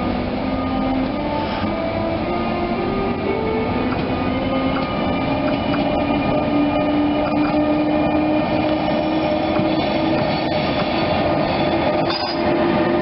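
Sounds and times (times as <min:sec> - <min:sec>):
electric train rumbling past: 0:00.0 - 0:13.0.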